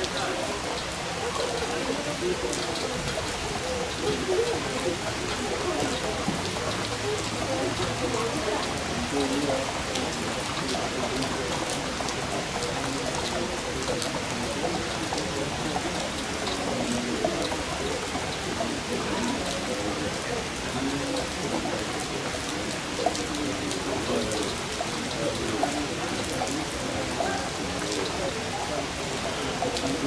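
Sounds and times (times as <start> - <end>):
raindrops ticking on surfaces: 0.0 - 30.0
steady rain falling: 0.0 - 30.0.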